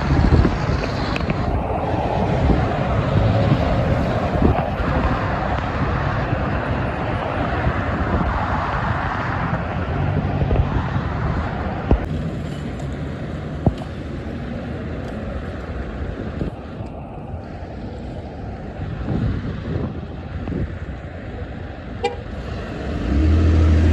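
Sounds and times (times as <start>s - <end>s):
road traffic passing: 0.0s - 23.9s
wind buffeting microphone: 0.0s - 23.9s.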